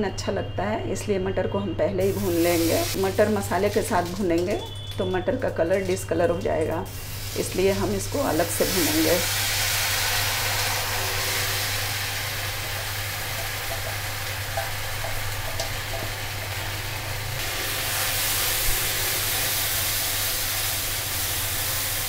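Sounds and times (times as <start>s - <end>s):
paste sizzling in hot oil: 2.0s - 6.1s, 6.8s - 22.0s.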